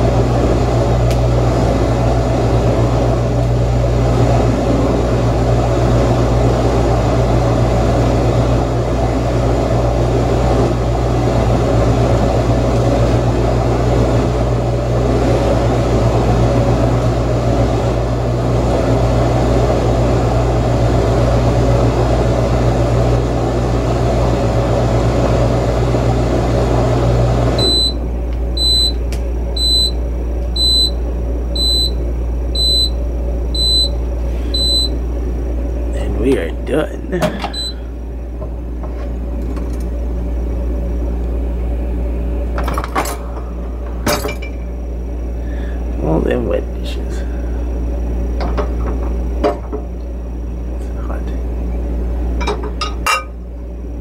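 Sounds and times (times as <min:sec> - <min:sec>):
dishwasher motor humming: 0:00.0 - 0:54.0.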